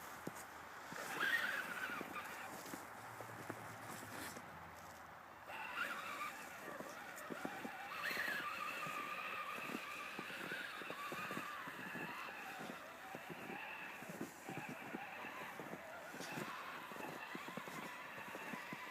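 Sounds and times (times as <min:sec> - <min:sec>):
crunching clicks in snow: 0:00.0 - 0:18.9
toy truck electric motor whining: 0:00.9 - 0:02.7, 0:05.5 - 0:18.9.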